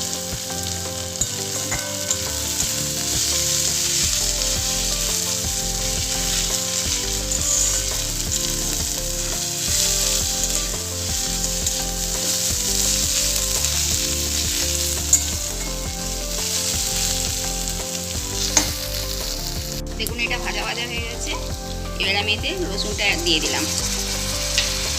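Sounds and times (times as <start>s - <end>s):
stirring in a pan: 0.0s - 19.9s, 21.4s - 24.9s
paste sizzling in hot oil: 0.0s - 20.1s, 21.3s - 24.9s.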